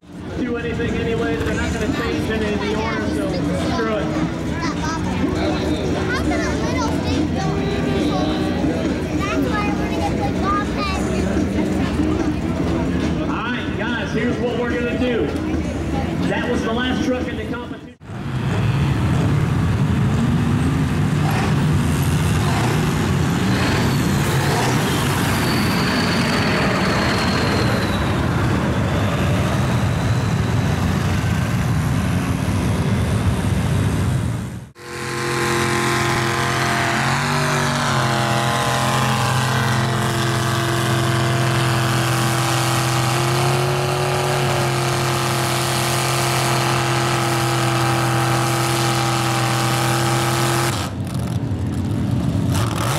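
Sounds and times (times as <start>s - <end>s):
truck engines running loud: 0.0s - 52.9s.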